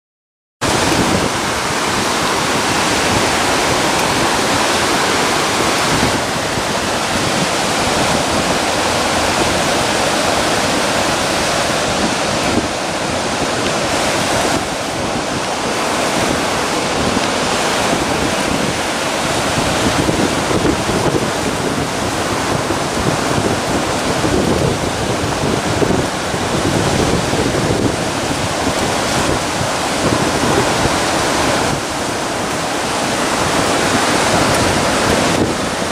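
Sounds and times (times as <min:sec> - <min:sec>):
surf washing over rocks: 0:00.6 - 0:35.9
wind buffeting microphone: 0:00.6 - 0:35.9.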